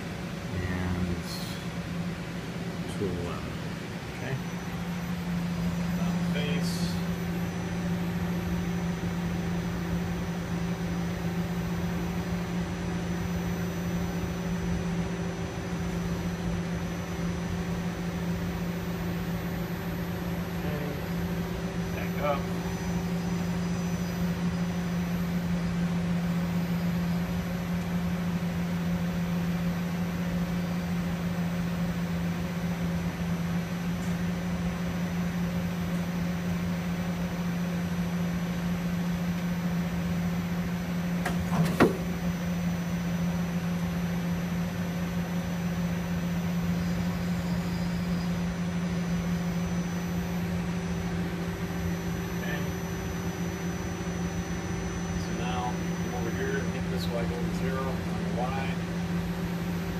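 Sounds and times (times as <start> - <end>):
lathe machine hum: 0.0 - 59.9.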